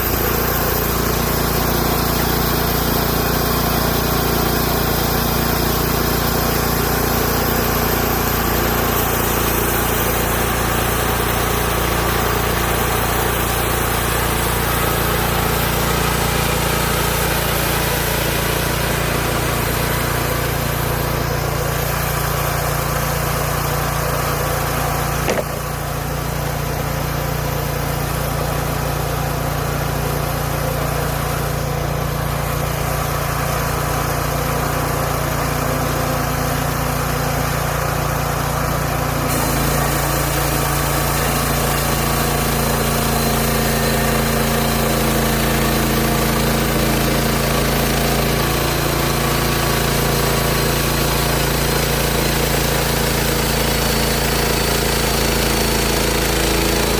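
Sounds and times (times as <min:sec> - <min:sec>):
small gasoline engine running: 0:00.0 - 0:56.9.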